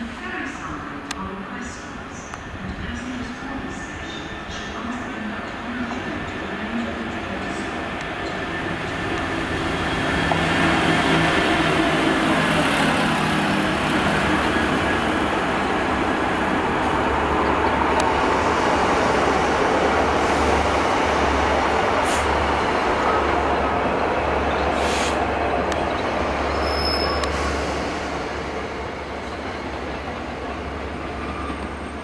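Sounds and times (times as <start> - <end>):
diesel locomotive engine passing: 0.5 - 32.0
wheel and rail noise: 2.3 - 32.0.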